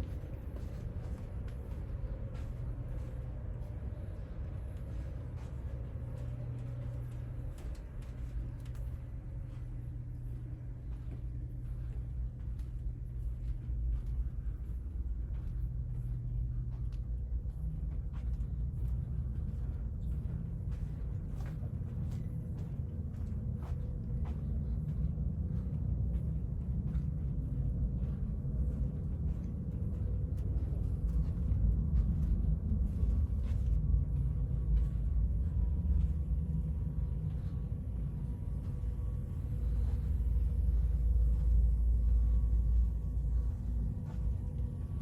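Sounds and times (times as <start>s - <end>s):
faint hum: 0.0s - 45.0s
low rumble: 0.0s - 45.0s.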